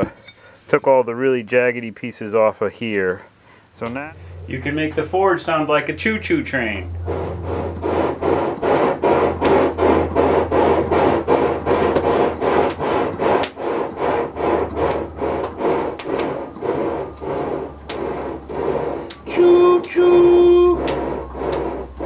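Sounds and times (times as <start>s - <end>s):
low steady hum: 0.0s - 22.0s
rhythmic puffs of air: 3.0s - 22.0s.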